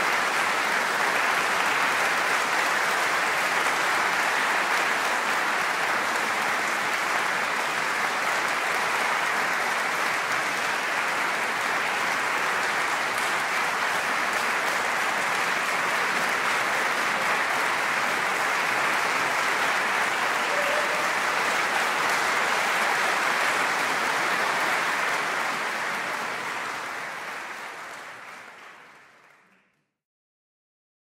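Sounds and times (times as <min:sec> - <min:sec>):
audience applauding: 0:00.0 - 0:29.8.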